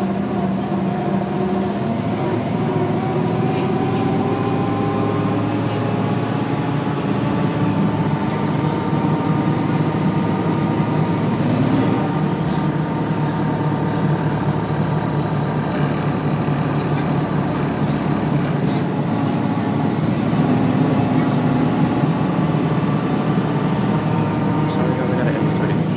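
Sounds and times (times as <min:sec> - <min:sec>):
bus rumble: 0:00.0 - 0:25.9.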